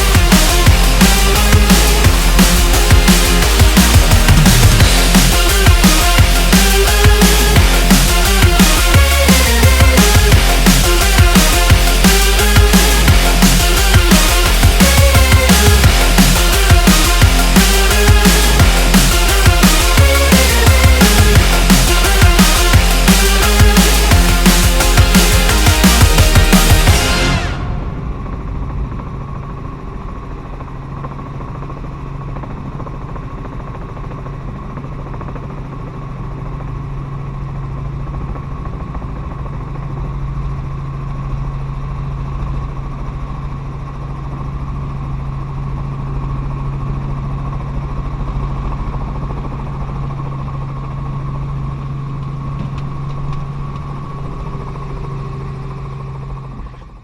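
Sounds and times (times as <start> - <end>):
helicopter engine and rotor drone: 0.0 - 57.0
high whine: 0.0 - 57.0.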